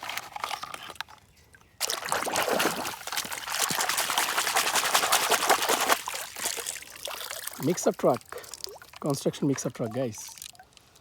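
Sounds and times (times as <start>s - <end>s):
water splashing: 1.8s - 10.8s.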